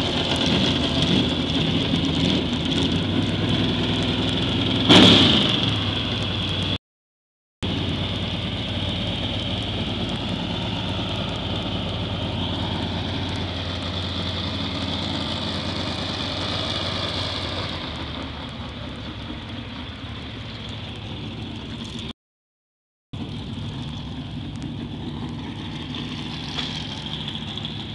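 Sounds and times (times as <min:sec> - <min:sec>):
engine humming: 0:00.0 - 0:06.8, 0:07.6 - 0:22.1, 0:23.2 - 0:27.9
outdoor background noise: 0:00.0 - 0:06.8, 0:07.6 - 0:22.1, 0:23.2 - 0:27.9.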